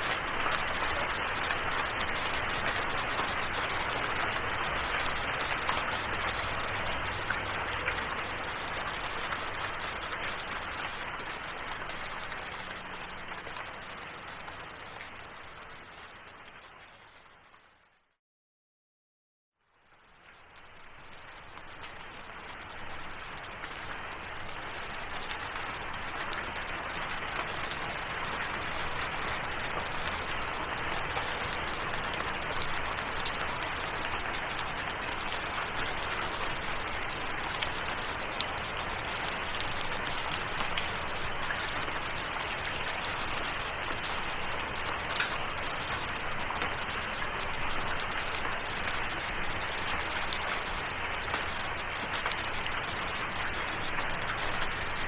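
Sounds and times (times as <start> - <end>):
raindrops ticking on a surface: 0.0 - 17.9, 19.7 - 55.0
steady rain: 0.0 - 17.9, 19.6 - 55.0.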